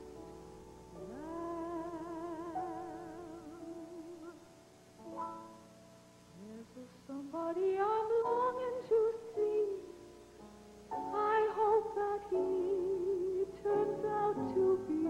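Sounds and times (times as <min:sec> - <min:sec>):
slow sustained background music: 0:00.0 - 0:15.0.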